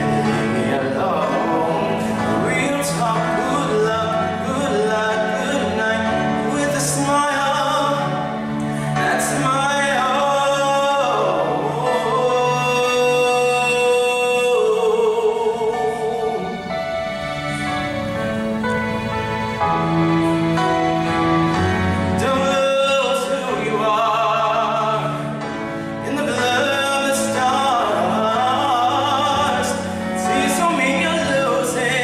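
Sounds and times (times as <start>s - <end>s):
man singing a ballad: 0.0s - 17.1s, 21.4s - 32.0s
instrumental accompaniment: 0.0s - 32.0s.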